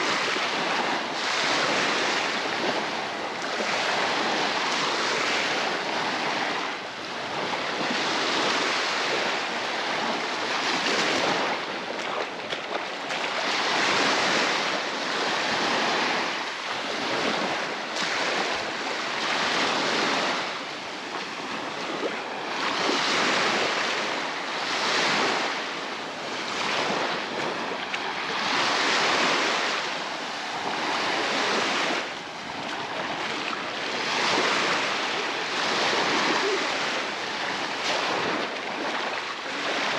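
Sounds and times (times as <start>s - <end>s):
waves breaking on shore: 0.0s - 39.9s
wind: 0.0s - 39.9s.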